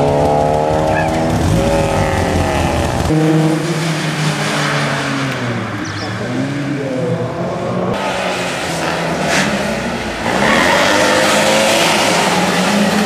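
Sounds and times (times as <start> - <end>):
rally car engines accelerating: 0.0 - 13.0.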